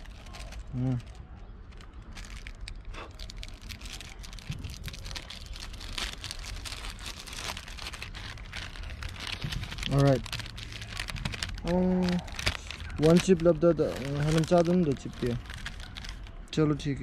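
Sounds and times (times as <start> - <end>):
foil pouch crinkling: 0.0 - 17.0.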